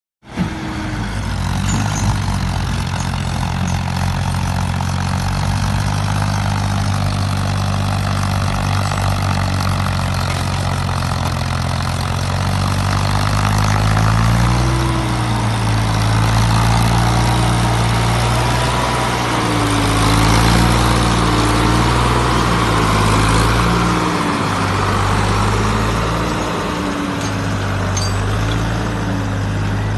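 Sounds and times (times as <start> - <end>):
tractor engine running under load: 0.2 - 29.9.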